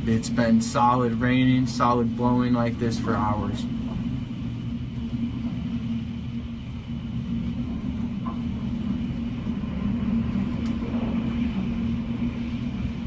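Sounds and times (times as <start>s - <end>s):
wind and rain against house: 0.0s - 13.0s.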